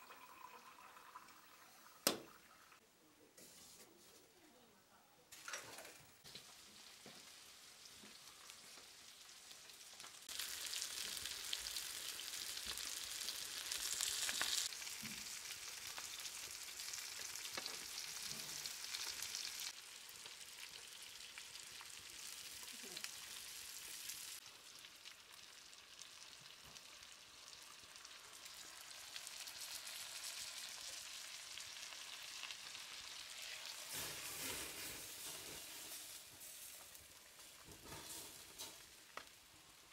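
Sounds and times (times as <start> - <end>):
fish sizzling in oil: 5.4 - 39.9.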